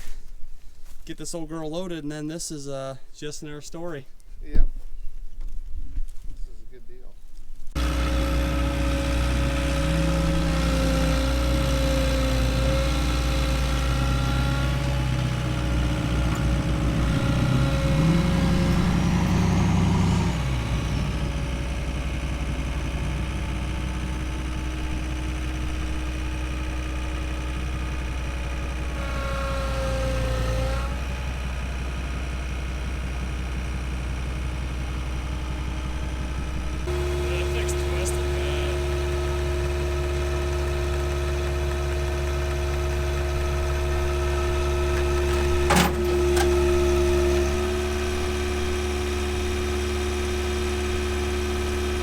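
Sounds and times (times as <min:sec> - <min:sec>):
vehicle engine idling: 0:07.7 - 0:52.0.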